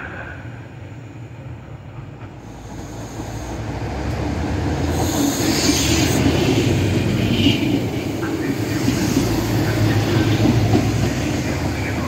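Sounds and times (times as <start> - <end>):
railcar engine and wheels: 0.0 - 12.0.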